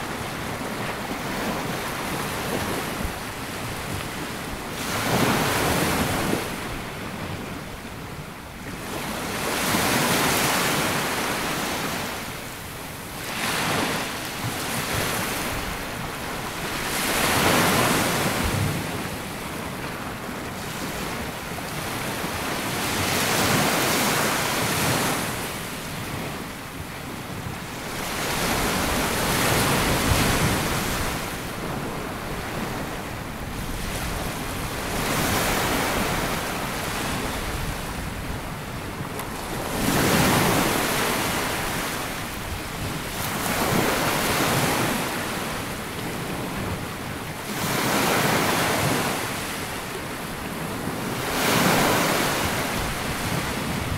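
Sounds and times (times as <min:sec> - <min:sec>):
small waves breaking on beach: 0:00.0 - 0:53.9
wind on microphone: 0:00.0 - 0:53.9.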